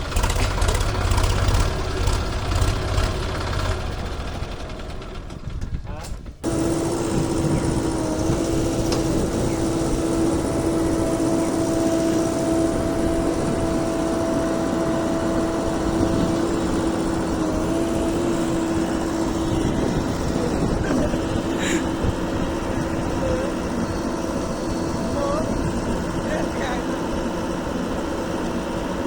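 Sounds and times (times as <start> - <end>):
constant whine: 0.0 - 29.0
diesel machinery engine running: 0.0 - 29.0.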